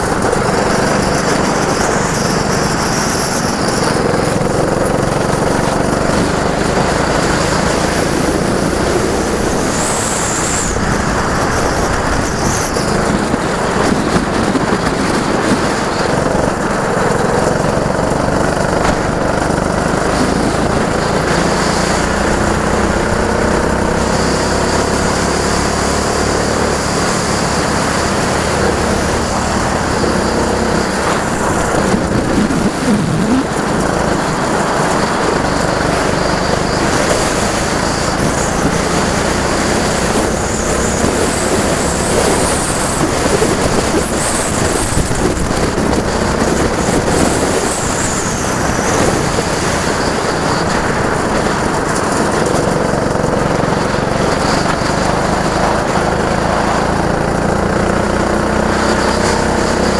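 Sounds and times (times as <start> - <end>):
go-kart engines racing: 0.0 - 59.9.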